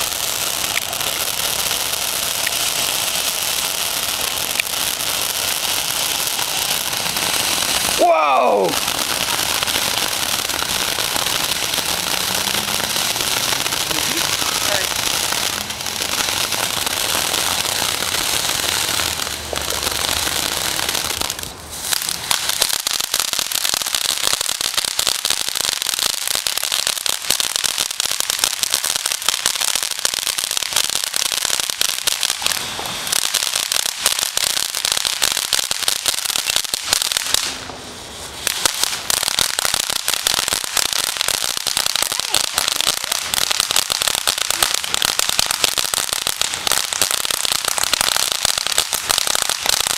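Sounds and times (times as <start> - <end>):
fireworks hissing and crackling: 0.0 - 49.9.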